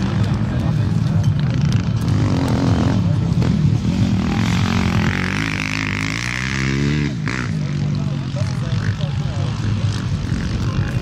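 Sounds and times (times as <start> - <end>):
racing engines roaring: 0.0 - 11.0.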